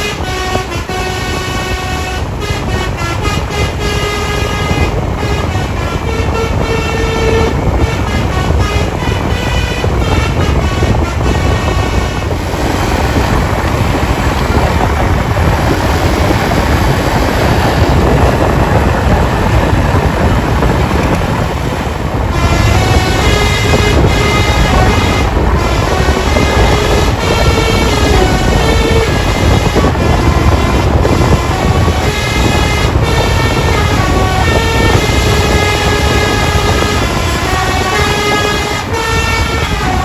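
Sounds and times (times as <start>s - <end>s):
bus musical horn tune: 0.0s - 40.0s
loud rushing noise: 0.0s - 40.0s.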